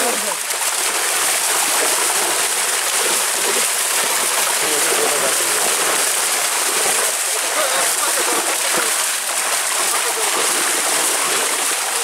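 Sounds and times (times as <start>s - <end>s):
fish thrashing and splashing water: 0.0s - 12.0s.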